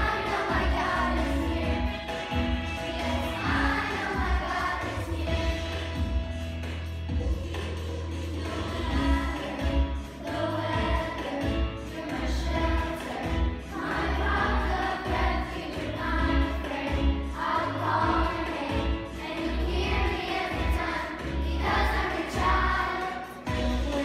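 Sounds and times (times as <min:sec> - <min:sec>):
chorus singing: 0:00.0 - 0:24.0
instrumental accompaniment with bass: 0:00.0 - 0:24.0.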